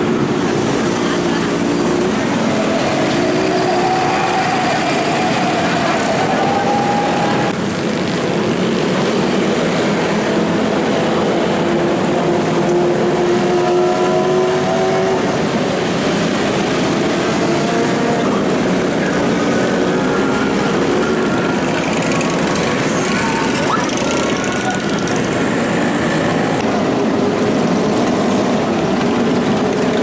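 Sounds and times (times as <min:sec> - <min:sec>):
motorcycle engines running: 0:00.0 - 0:30.0.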